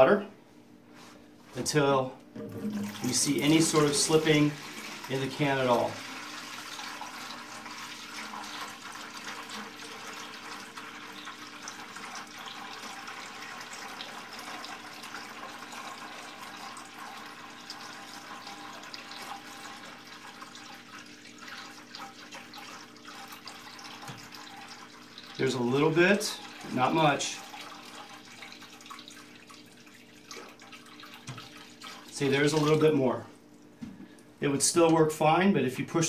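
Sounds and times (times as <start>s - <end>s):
water pouring into plastic bucket: 2.4s - 32.9s.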